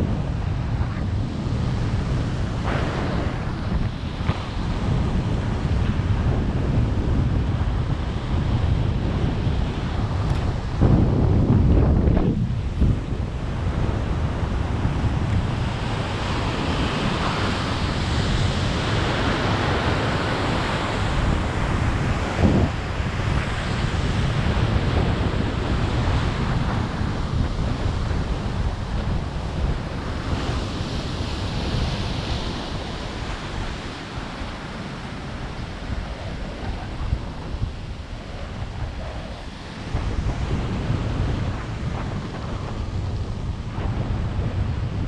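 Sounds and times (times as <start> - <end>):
ocean surf washing in: 0.0 - 45.0
wind buffeting microphone: 0.0 - 45.0.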